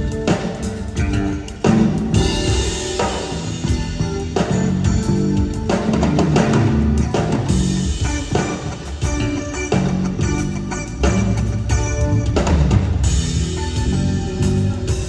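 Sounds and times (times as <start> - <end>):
band playing: 0.0 - 15.0.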